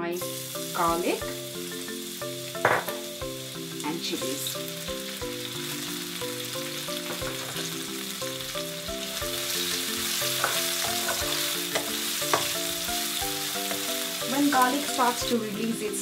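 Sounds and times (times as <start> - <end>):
garlic and chillies sizzling in oil: 0.0 - 16.0
light marimba music: 0.2 - 16.0.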